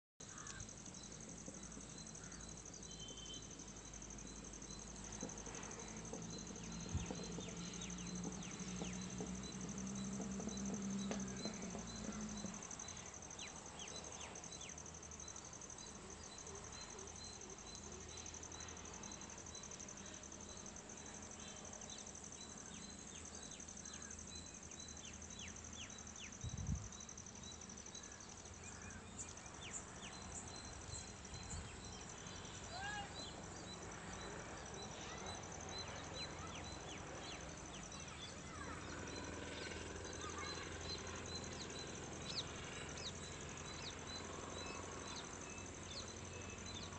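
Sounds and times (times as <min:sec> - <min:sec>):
high-pitched insect trill: 0:00.2 - 0:46.9.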